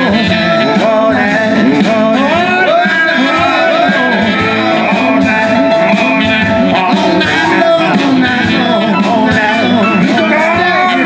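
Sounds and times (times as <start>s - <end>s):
acoustic guitar: 0.0s - 11.0s
drums: 0.0s - 11.0s
electric bass: 0.0s - 11.0s
saxophone: 0.0s - 11.0s.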